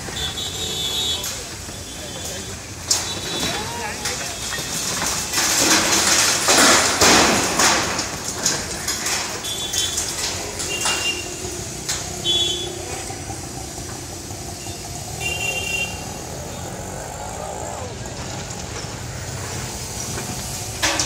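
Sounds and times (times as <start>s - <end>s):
excavator running: 0.0s - 21.0s
breaking concrete cracks: 1.2s - 21.0s
concrete debris crashing down: 1.2s - 21.0s.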